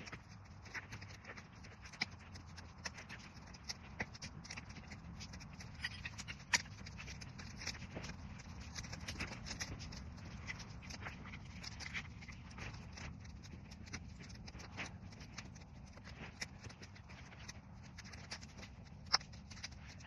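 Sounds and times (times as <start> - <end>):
campfire crackling and popping: 0.0 - 20.0
low steady rumble: 0.0 - 20.0.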